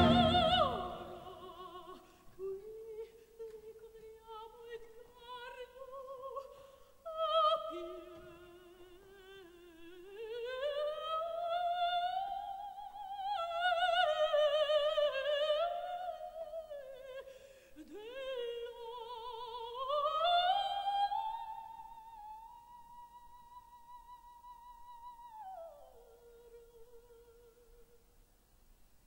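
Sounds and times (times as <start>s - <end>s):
operatic soprano singing: 0.0s - 28.0s.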